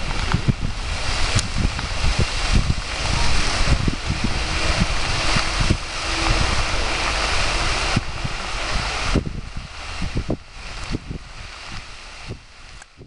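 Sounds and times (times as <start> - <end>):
fire burning with pops and crackles: 0.0 - 13.0
wind rumbling on microphone: 0.0 - 13.0.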